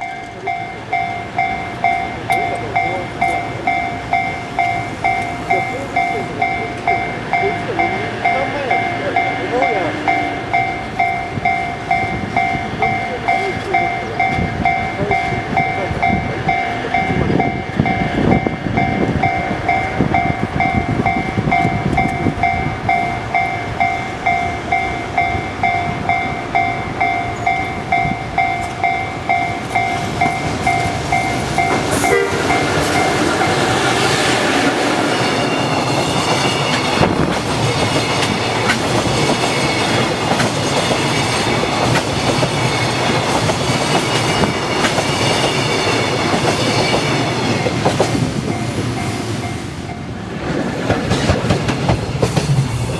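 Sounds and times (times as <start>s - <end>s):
level-crossing warning bell dinging: 0.0s - 50.4s
freight wagons rumbling: 0.0s - 52.9s
train wheels clattering: 0.0s - 52.9s.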